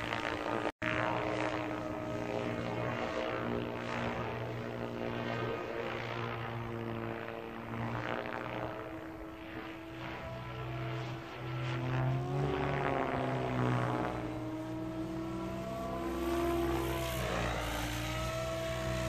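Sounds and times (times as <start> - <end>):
rc helicopter whine: 0.0 - 19.0.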